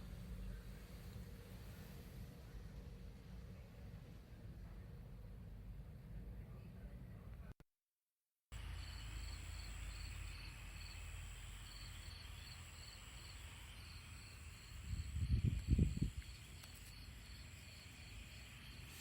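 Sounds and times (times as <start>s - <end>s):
faint steady high whine: 0.0s - 7.5s, 8.5s - 19.0s.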